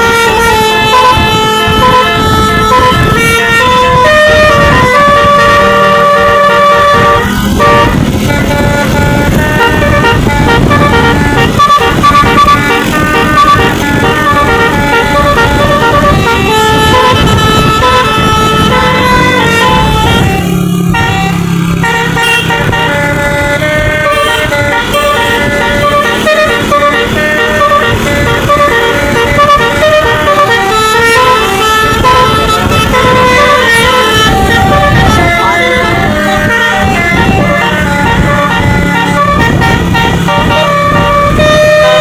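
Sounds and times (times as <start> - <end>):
musical air horns playing melody: 0.0 - 42.0.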